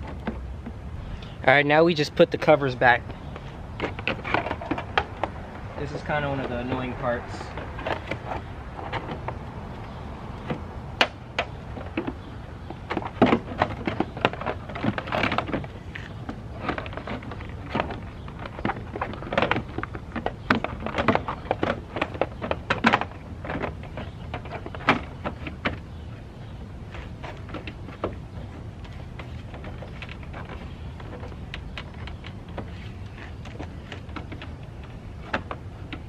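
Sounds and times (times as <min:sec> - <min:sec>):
plastic parts clicking and scraping: 0:02.4 - 0:26.2, 0:26.8 - 0:36.0.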